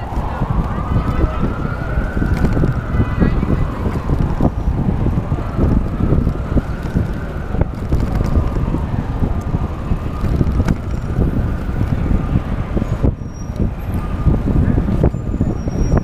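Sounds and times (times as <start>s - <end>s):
city traffic noise: 0.0s - 16.0s
wind rumbling on microphone: 0.0s - 16.0s.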